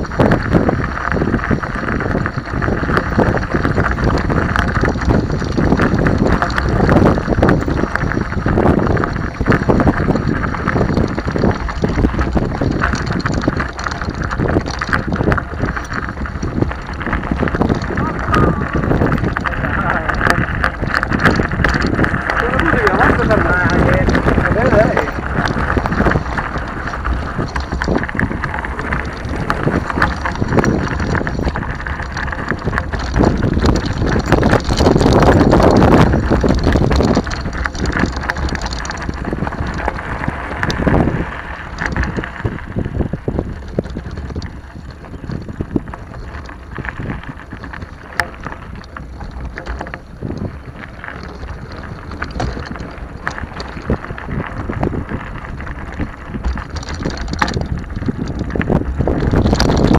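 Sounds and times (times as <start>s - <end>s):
bike rolling on gravel: 0.0s - 59.9s
wind noise on microphone: 0.0s - 59.9s.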